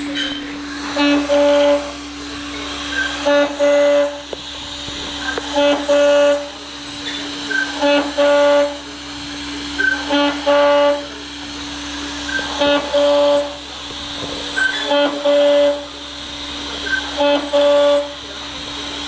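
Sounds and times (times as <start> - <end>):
cutting tool whine: 0.0 - 19.0
machine motor tone: 0.0 - 19.0.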